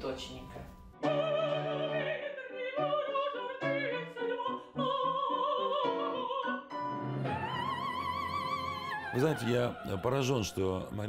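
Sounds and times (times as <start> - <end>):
grand piano: 0.0 - 10.9
soprano singing with vibrato: 1.0 - 11.0.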